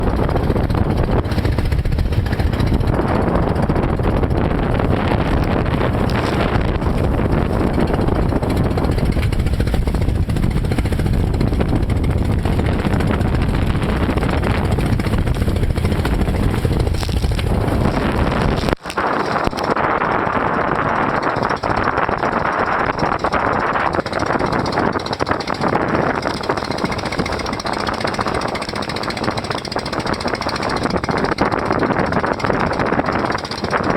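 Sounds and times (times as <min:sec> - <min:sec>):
boat engine running: 0:00.0 - 0:33.9
wind and water rushing: 0:00.0 - 0:33.9.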